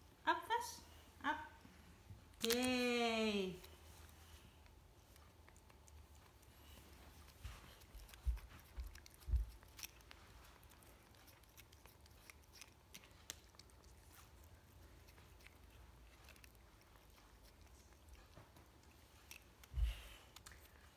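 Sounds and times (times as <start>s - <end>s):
cat licking and nibbling: 3.6s - 20.9s.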